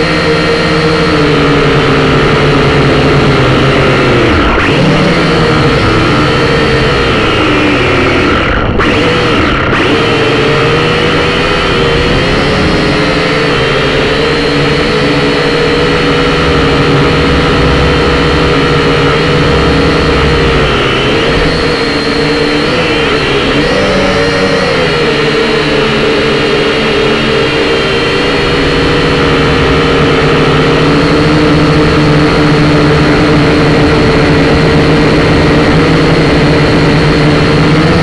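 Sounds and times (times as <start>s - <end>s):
drone motors whining: 0.0s - 38.0s.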